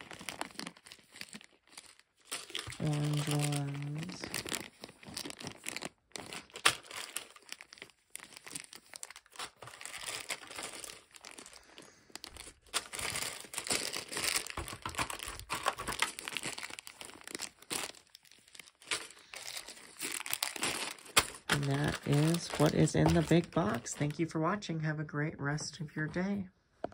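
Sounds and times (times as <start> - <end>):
plastic bags crinkling: 0.0 - 24.2.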